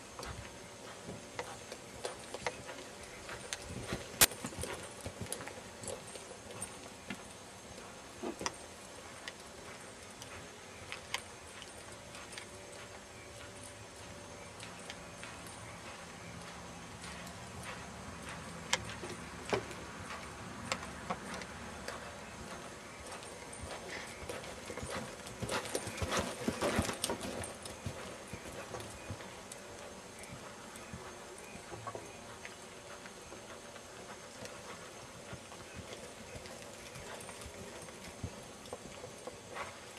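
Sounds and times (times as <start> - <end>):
horse hoofbeats on sand: 0.0 - 39.9.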